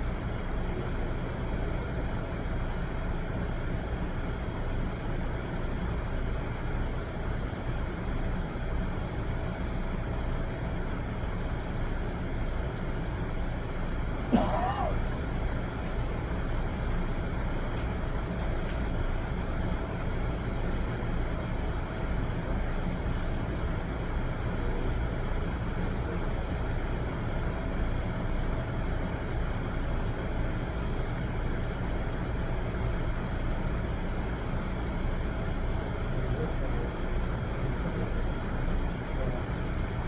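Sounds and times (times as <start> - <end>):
low rumbling background noise: 0.0 - 40.0.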